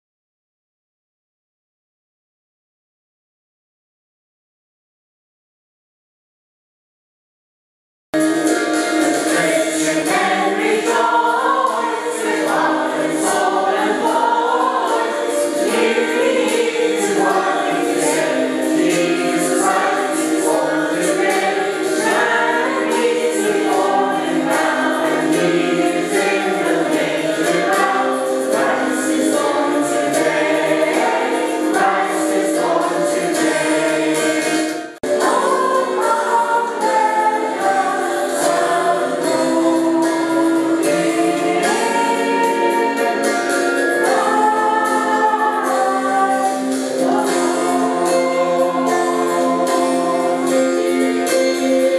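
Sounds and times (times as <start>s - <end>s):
mixed choir singing: 8.2s - 51.9s.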